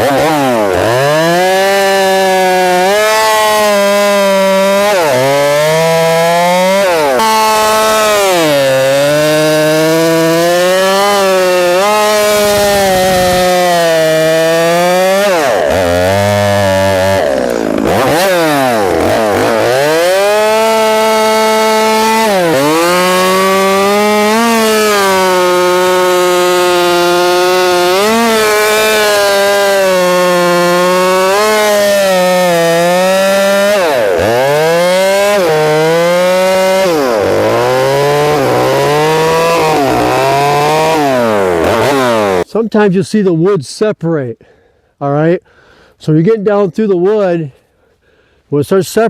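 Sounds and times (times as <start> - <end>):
chainsaw cutting through log: 0.0 - 42.9.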